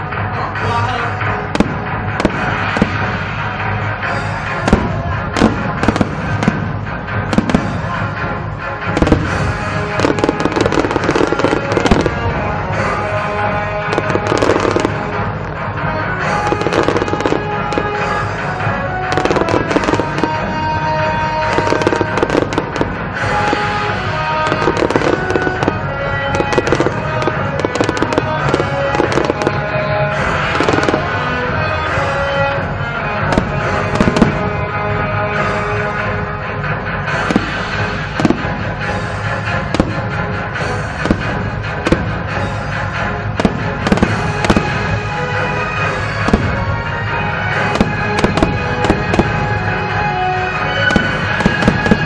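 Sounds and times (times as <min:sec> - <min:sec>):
fireworks bursting and crackling: 0:00.0 - 0:52.0
music playing: 0:00.0 - 0:52.0.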